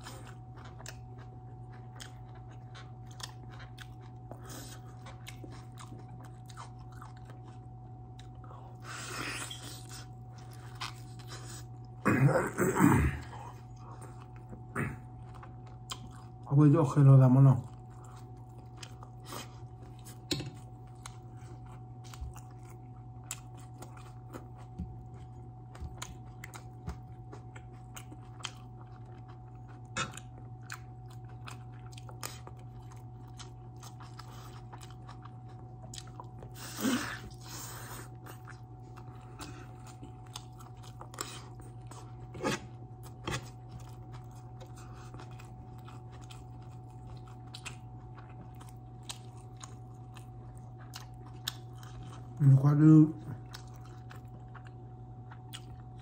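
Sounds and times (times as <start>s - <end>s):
person chewing: 0.0s - 16.5s, 17.6s - 56.0s
steady low hum: 0.0s - 56.0s.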